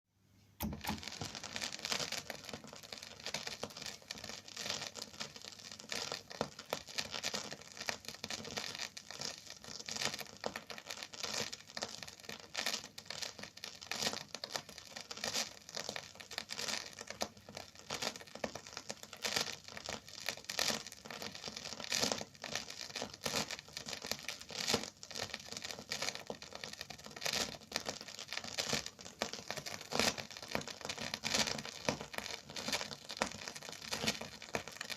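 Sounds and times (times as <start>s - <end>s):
record crackling and popping: 0.4s - 34.9s.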